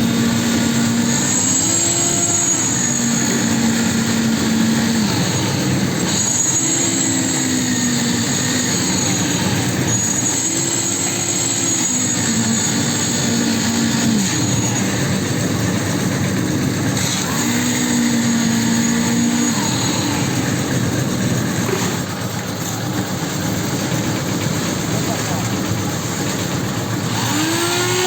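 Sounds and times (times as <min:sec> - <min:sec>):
machine motor humming: 0:00.0 - 0:28.0.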